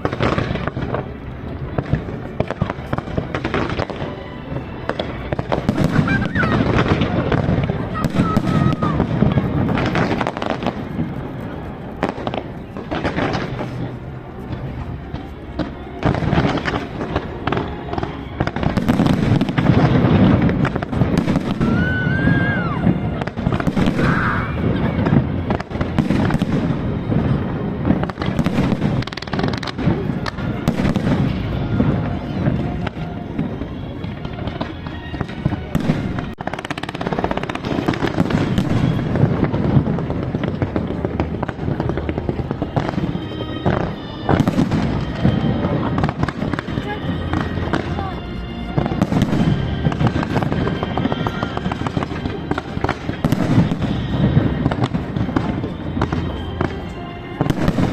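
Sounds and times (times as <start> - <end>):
firework whistle: 0.0 - 57.9
fireworks bangs and crackling: 0.0 - 57.9.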